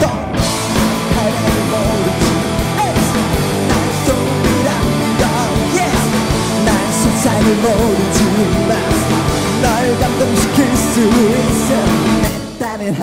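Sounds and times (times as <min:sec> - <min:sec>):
electric guitar lead bends: 0:00.0 - 0:12.8
rock band playing live: 0:00.0 - 0:13.0.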